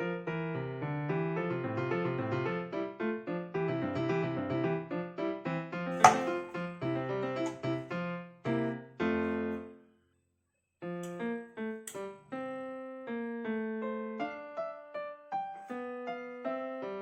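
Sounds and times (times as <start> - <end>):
piano melody: 0.0 - 9.8, 10.8 - 17.0.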